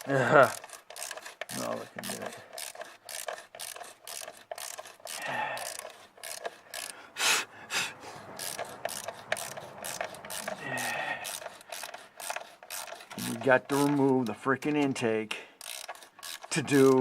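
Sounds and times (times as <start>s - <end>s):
ratchet wrench clicking: 0.0s - 7.0s, 8.2s - 17.0s.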